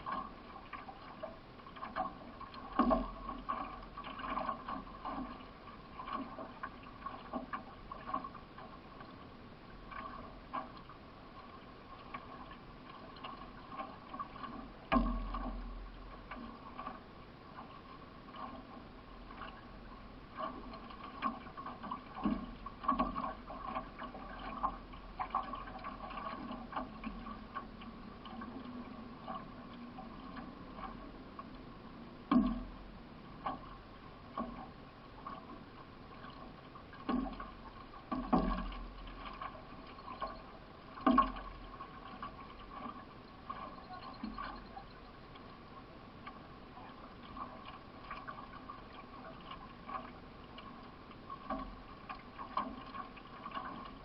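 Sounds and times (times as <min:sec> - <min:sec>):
paddle splashing through water: 0:00.0 - 0:54.0.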